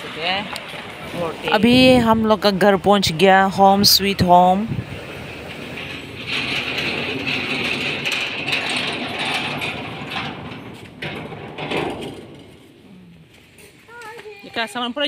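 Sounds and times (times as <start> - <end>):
metal gate grating and scraping: 0.2 - 14.8
metallic knocks: 0.6 - 12.9.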